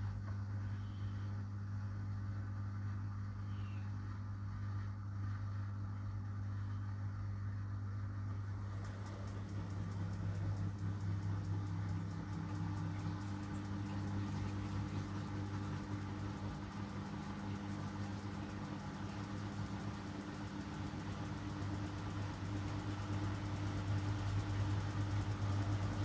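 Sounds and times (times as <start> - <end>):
washing machine spinning: 4.2 - 26.0.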